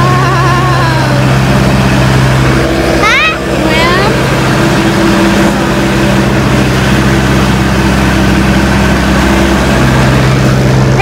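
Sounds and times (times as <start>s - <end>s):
road roller diesel engine droning: 0.0s - 11.0s.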